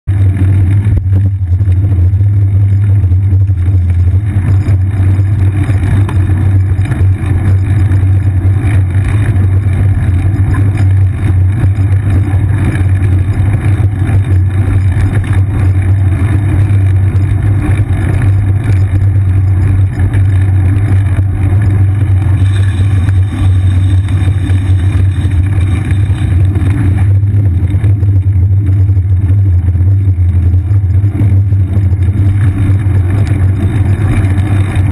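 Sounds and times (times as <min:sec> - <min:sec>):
wind and road rumble: 0:00.0 - 0:34.9
surrounding car traffic: 0:00.1 - 0:34.9.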